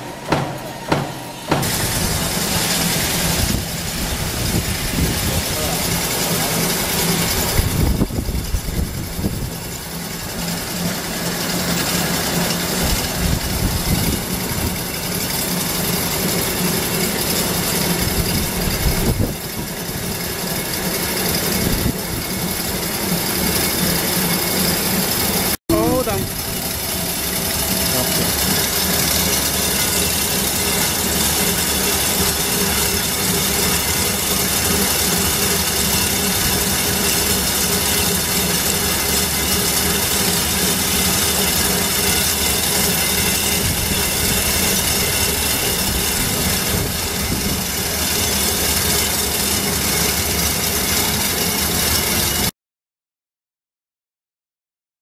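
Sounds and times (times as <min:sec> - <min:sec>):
wire making machine running: 0:00.0 - 0:52.5.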